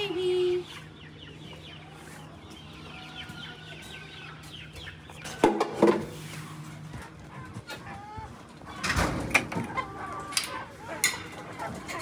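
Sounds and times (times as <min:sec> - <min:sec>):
chickens clucking and chirping: 0:00.0 - 0:12.0.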